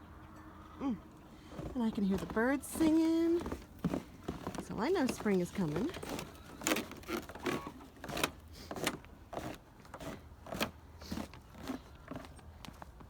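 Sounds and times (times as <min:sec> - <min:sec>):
footsteps crunching through snow: 0:01.4 - 0:13.0.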